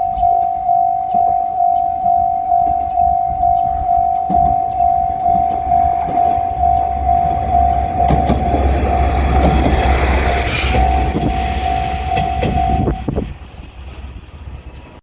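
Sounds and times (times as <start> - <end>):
level crossing warning bell: 0.0 - 13.3
diesel railcar rumble: 0.0 - 15.0.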